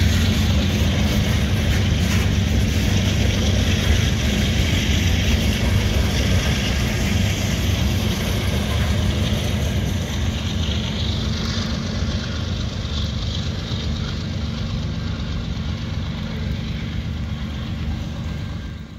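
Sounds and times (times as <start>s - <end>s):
freight train rolling on rails: 0.0s - 18.9s.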